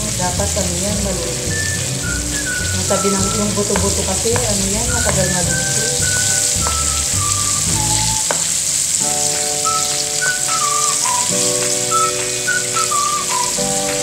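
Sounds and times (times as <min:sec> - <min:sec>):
chicken deep-frying in oil: 0:00.0 - 0:14.0
simple background tune: 0:00.0 - 0:14.0.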